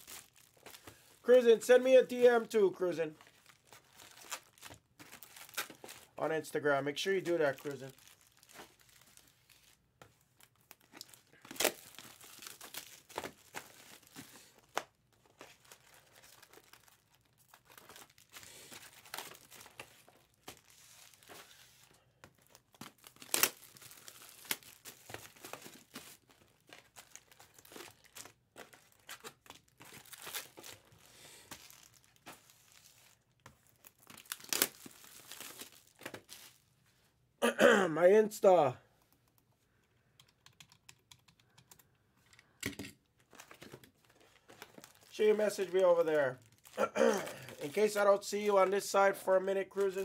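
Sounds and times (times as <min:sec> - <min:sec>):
foil wrappers crinkling and tearing: 0:00.0 - 0:36.7, 0:43.2 - 0:48.8.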